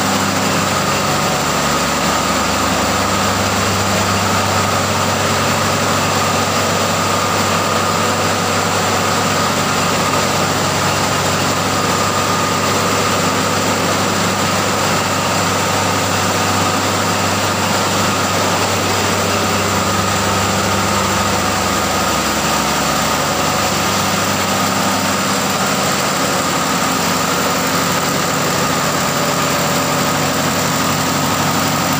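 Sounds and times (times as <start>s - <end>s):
diesel machinery droning: 0.0s - 31.9s.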